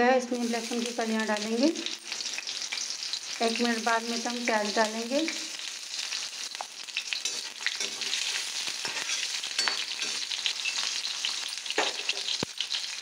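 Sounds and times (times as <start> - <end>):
garlic and seeds sizzling in oil: 0.0 - 13.0.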